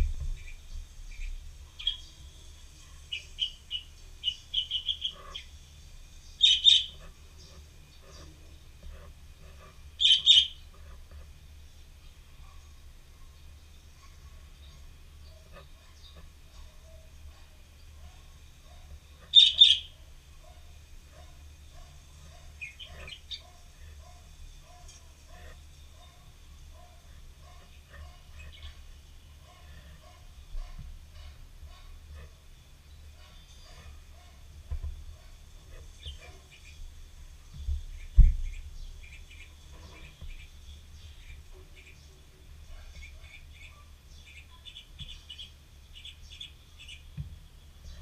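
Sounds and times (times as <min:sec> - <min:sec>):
small bird chirping: 0:00.1 - 0:11.2, 0:12.0 - 0:37.0, 0:37.8 - 0:48.0.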